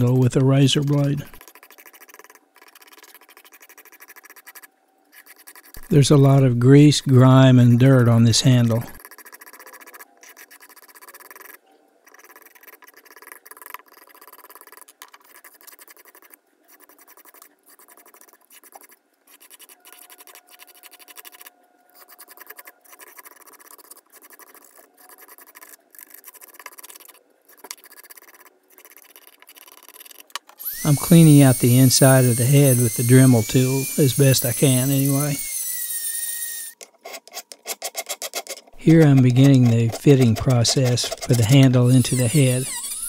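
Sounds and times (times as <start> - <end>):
razor blade scraping wood: 0.0 - 6.4, 7.7 - 43.0.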